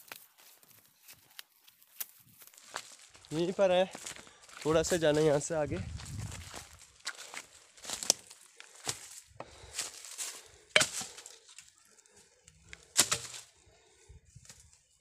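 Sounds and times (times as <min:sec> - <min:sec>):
footsteps on forest path: 0:00.0 - 0:15.0.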